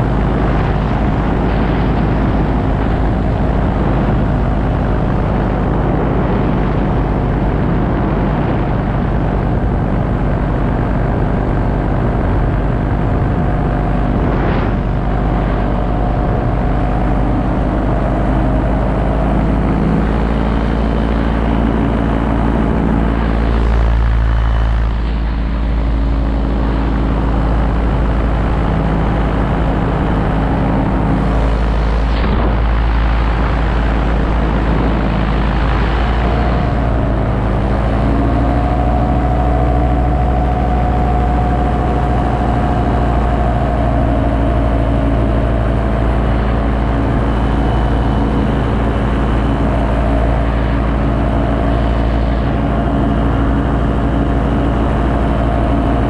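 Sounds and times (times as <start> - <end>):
paramotor engine and propeller: 0.0 - 56.0
wind rumble on microphone: 0.0 - 56.0.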